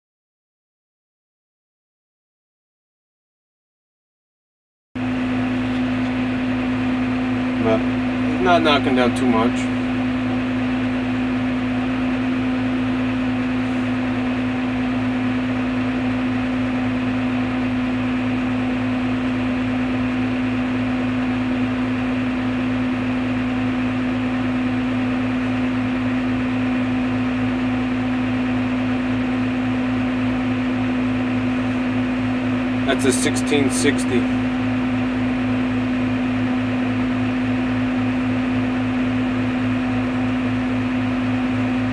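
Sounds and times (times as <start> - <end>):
tractor engine drone from cab: 5.0 - 41.9.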